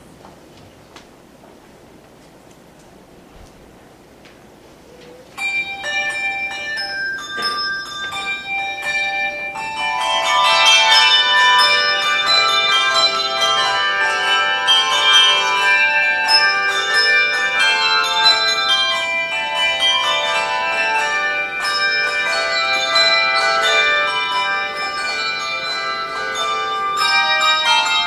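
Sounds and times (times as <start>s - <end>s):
handbell choir playing: 5.4s - 28.0s.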